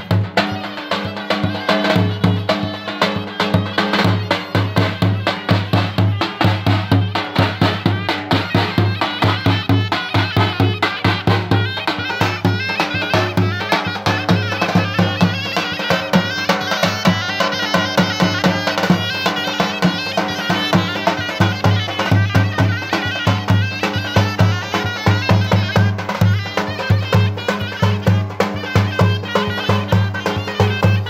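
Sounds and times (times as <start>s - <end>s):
reed wind instrument melody: 0.0s - 31.0s.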